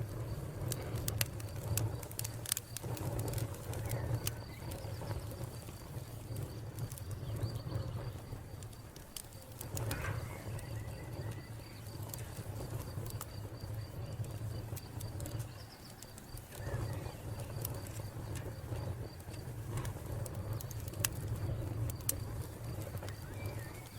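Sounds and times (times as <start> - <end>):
wood fire crackling: 0.0 - 23.9
cricket chirping: 0.1 - 23.9.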